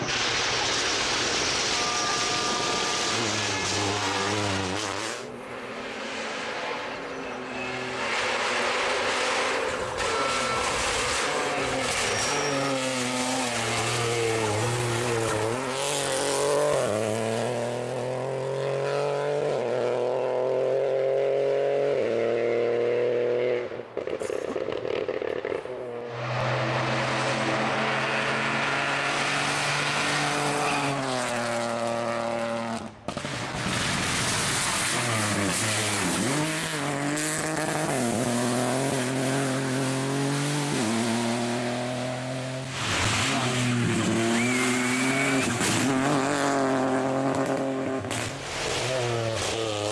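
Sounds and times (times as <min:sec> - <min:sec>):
rally car engine shifting gears: 0:02.7 - 0:49.9.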